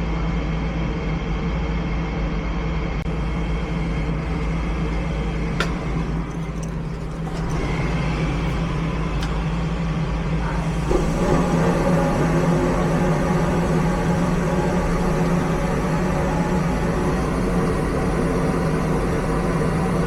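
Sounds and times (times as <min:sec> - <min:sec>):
vehicle engine and road noise: 0:01.3 - 0:20.0.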